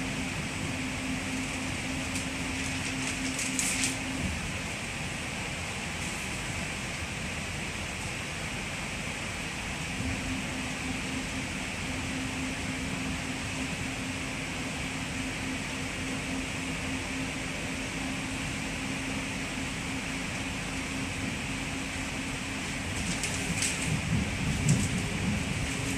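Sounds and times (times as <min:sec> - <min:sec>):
steady low hum: 0:00.0 - 0:25.9
train rumble and hiss: 0:00.0 - 0:25.9.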